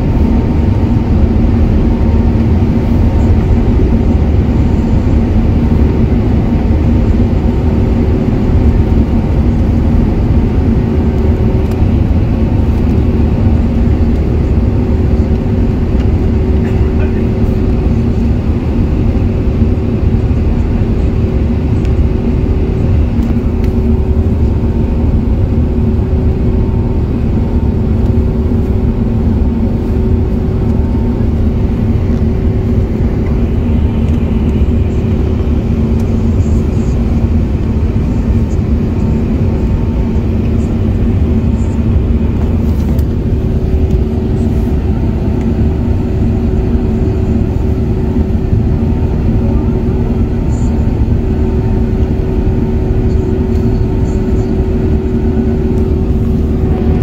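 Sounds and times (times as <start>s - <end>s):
aircraft engine drone: 0.0s - 57.0s
constant low hum: 0.0s - 57.0s.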